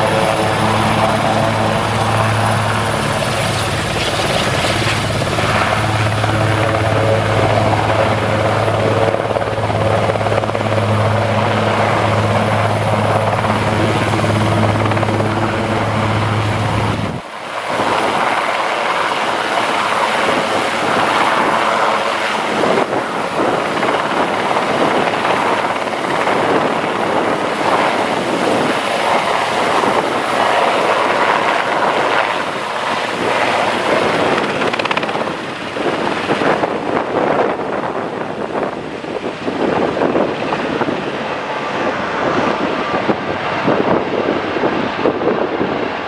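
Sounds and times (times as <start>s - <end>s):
helicopter hovering and lifting off: 0.0s - 46.0s
low rotor hum: 0.0s - 46.0s
rotor downwash rush: 0.0s - 46.0s.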